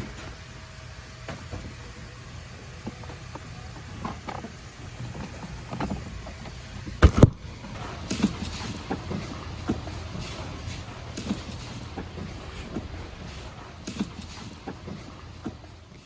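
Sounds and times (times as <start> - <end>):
steady low hum: 0.0 - 16.0
parts clicking and knocking: 2.8 - 16.0.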